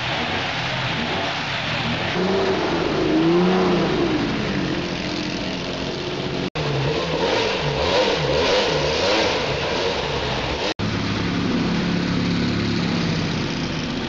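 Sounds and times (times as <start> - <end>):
car engine with wavering pitch: 0.0 - 14.0
rally car engine revving: 0.0 - 14.0.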